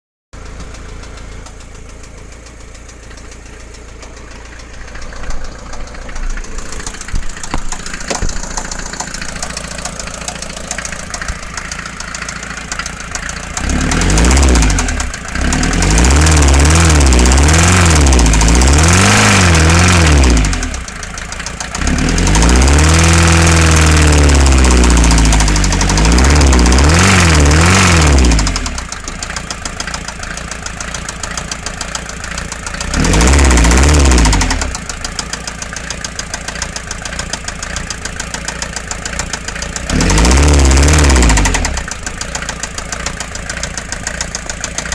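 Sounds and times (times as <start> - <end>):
diesel engine idling with knock: 0.4 - 44.9
engine revving: 0.5 - 44.9.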